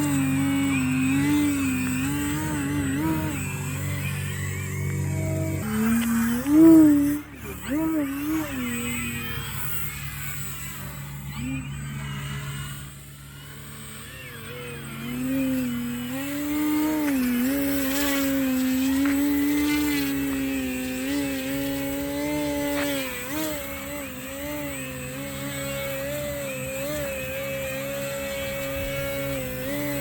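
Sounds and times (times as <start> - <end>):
vacuum cleaner droning: 0.0 - 30.0.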